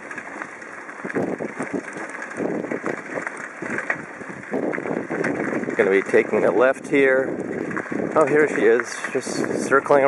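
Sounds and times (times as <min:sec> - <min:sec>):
bicycle rattling: 0:00.0 - 0:10.0
wind buffeting microphone: 0:00.0 - 0:10.0.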